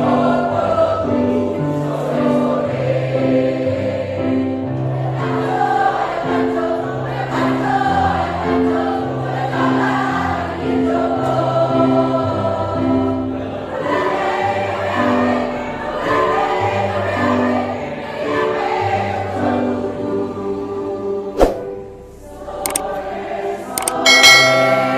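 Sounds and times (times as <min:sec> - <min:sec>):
choir singing in harmony: 0:00.0 - 0:24.9.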